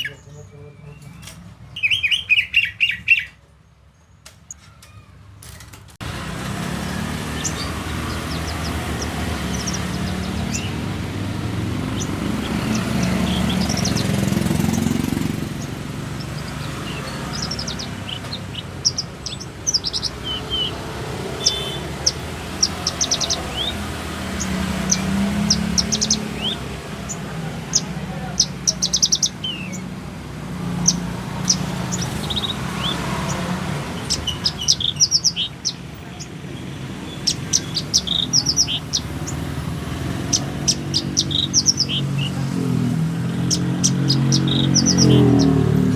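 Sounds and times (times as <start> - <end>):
caged songbirds chirping: 0.0 - 45.9.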